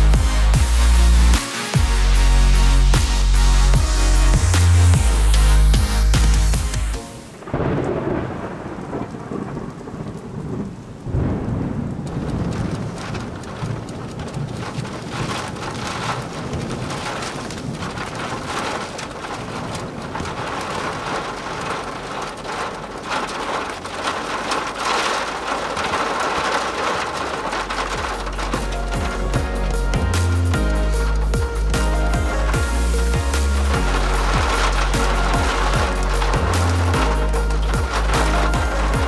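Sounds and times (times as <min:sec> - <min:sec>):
heavy rain pouring: 0:00.0 - 0:39.0
thunder rumble: 0:03.7 - 0:39.0.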